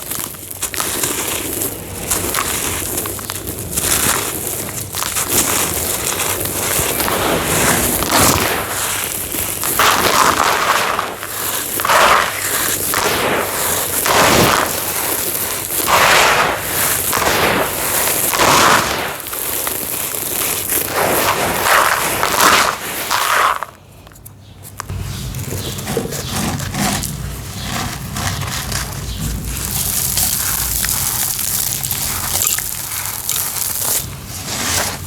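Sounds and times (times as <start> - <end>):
dried cement crunching: 0.0 - 35.0.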